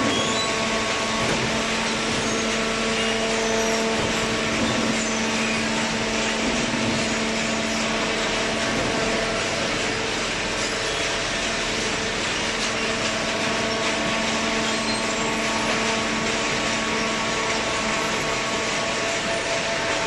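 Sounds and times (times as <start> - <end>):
hydraulic baler running: 0.0 - 20.0.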